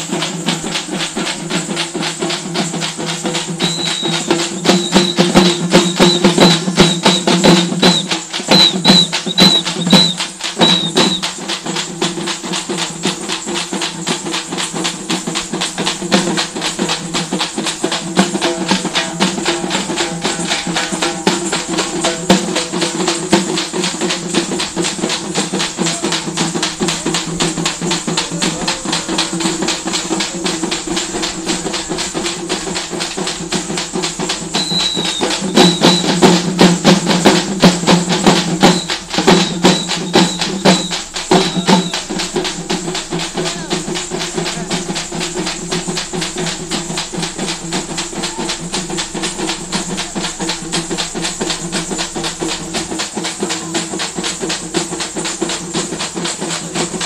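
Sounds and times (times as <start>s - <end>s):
frame drums beating: 0.0s - 57.0s.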